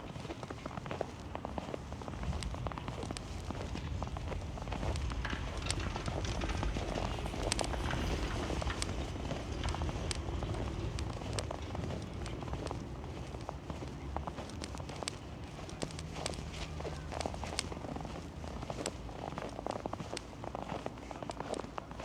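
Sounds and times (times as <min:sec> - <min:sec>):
low steady rumble: 0:00.0 - 0:19.9
footsteps crunching on snow: 0:00.0 - 0:22.0.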